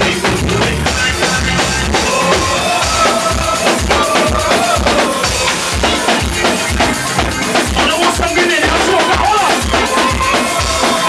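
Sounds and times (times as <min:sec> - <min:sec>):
loud soca music: 0:00.0 - 0:11.0.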